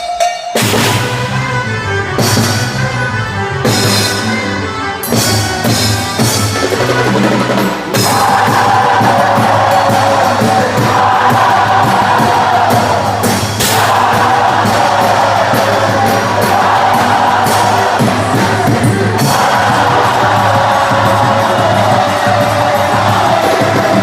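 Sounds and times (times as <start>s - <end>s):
loud music with drums and bass: 0.0s - 24.0s.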